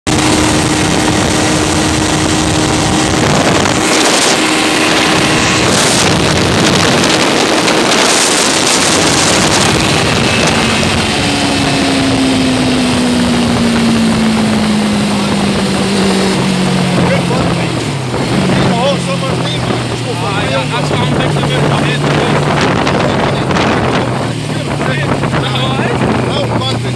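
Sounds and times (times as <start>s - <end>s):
engine running: 0.0s - 26.9s
wind noise on microphone: 0.0s - 26.9s.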